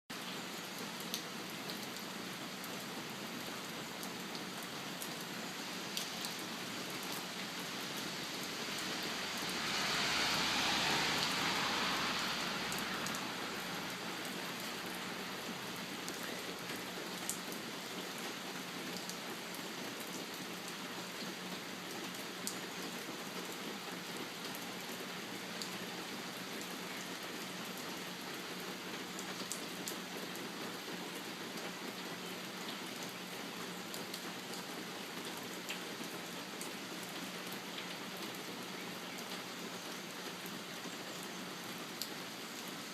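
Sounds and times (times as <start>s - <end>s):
steady rain: 0.1s - 42.9s.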